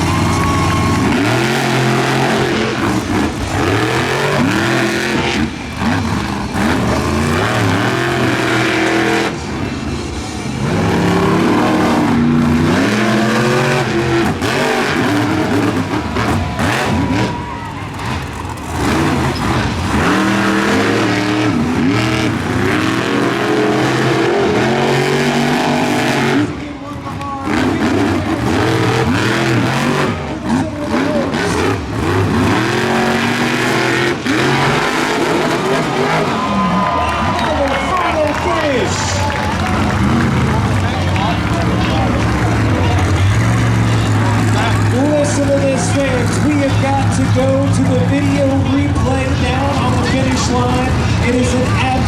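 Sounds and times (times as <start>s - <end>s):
monster truck engines revving: 0.0s - 52.0s.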